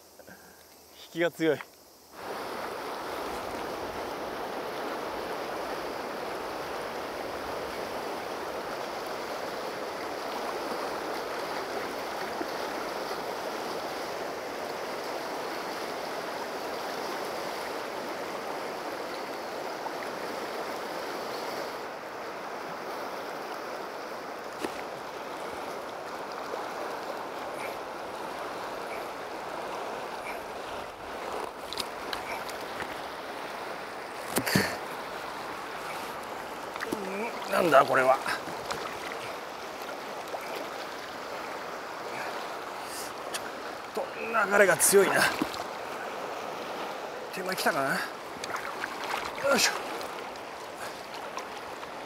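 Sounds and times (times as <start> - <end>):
river rapids rushing: 1.1 - 52.0.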